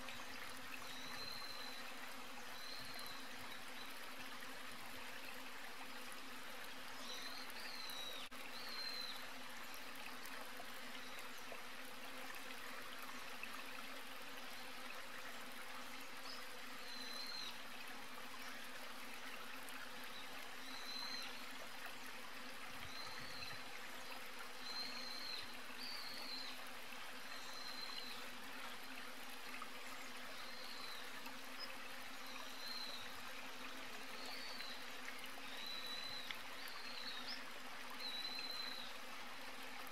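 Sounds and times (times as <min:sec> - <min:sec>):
steady insect or water hiss: 0:00.0 - 0:39.9.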